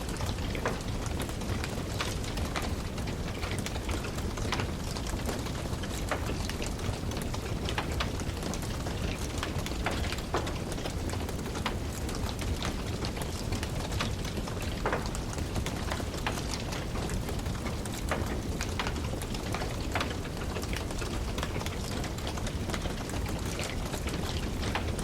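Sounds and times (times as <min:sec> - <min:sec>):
fire crackling and popping: 0:00.0 - 0:25.0
fire flames rumbling: 0:00.0 - 0:25.0.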